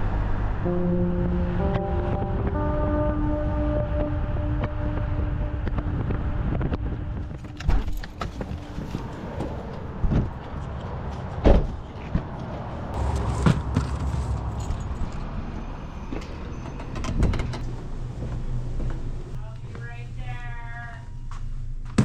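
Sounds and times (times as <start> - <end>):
low rumble: 0.0 - 11.0, 12.8 - 19.6.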